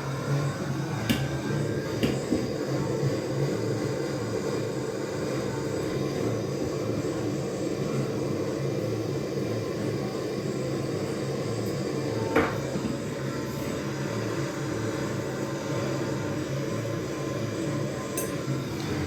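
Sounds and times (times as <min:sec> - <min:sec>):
blowtorch flame rumbling: 0:00.0 - 0:19.0.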